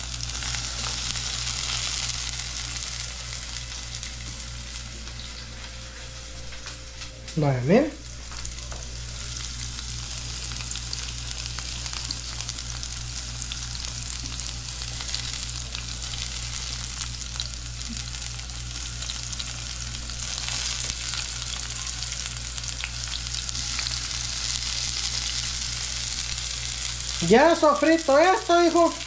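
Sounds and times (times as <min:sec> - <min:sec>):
vegetables sizzling in oil: 0:00.0 - 0:05.6, 0:08.0 - 0:29.0.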